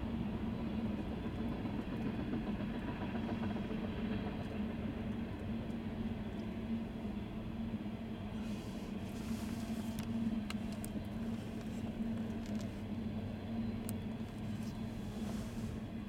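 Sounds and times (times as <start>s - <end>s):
constant low hum: 0.0s - 16.0s
train wheels rumbling on rails: 0.0s - 16.0s.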